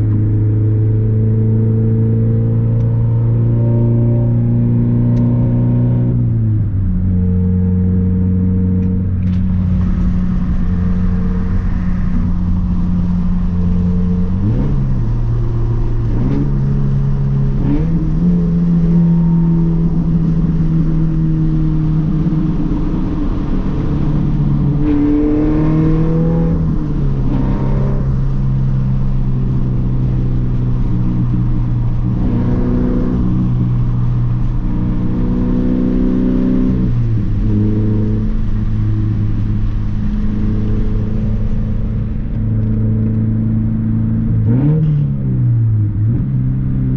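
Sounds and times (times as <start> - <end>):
loud car engine drone: 0.0 - 46.9.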